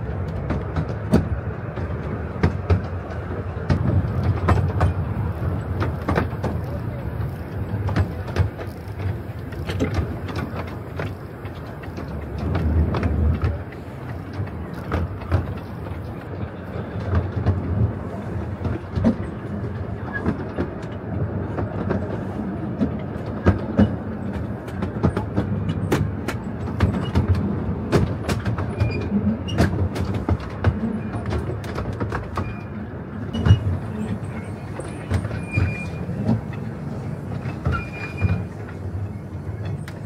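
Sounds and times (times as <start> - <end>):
train running gear rumble: 0.0 - 40.0
wheels clicking over rail joints: 0.0 - 40.0.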